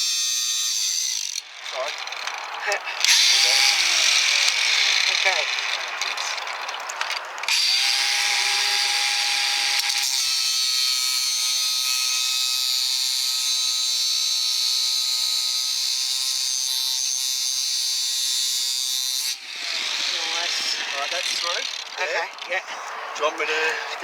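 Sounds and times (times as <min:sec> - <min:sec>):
angle grinder cutting metal: 0:00.0 - 0:24.0.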